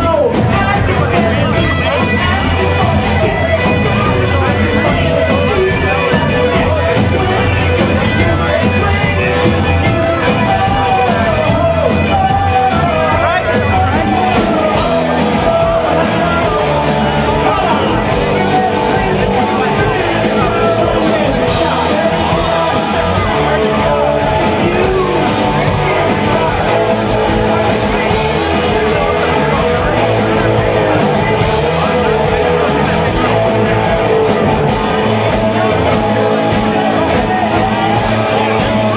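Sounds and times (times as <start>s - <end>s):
drums steady beat: 0.0s - 38.9s
person singing: 0.0s - 38.9s
rock band playing live: 0.0s - 38.9s.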